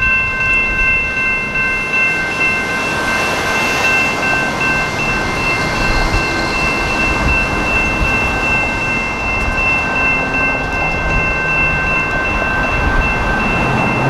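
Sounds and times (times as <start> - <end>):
crossing warning bell ringing: 0.0 - 14.0
train rumble: 0.0 - 14.0.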